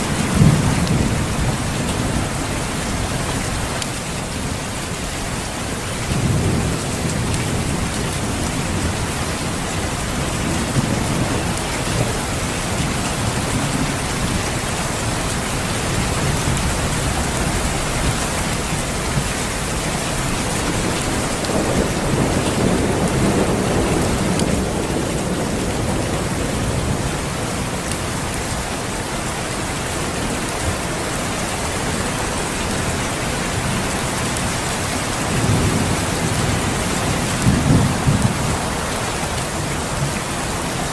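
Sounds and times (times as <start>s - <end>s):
rolling thunder rumbles: 0.0s - 4.6s, 5.3s - 29.1s, 32.8s - 40.9s
steady rain falling: 0.0s - 40.9s.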